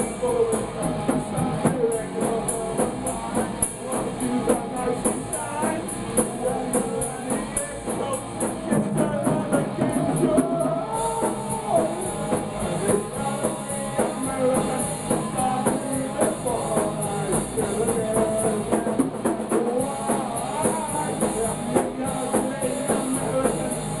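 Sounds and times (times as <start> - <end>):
punk rock band playing: 0.0 - 24.0.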